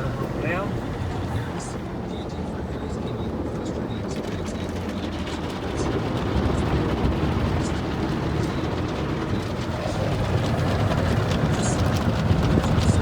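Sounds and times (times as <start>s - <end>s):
car wash machinery rumble: 0.0s - 13.0s.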